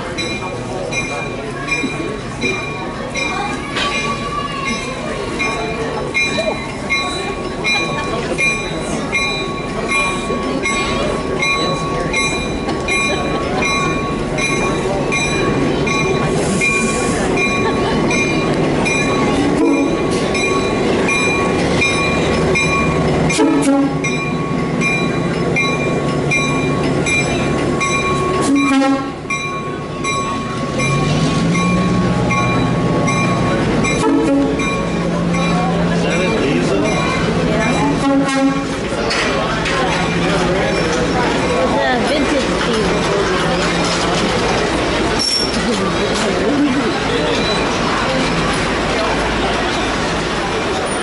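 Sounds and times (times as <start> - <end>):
locomotive bell ringing: 0.0 - 51.0
locomotive engine running: 0.0 - 51.0.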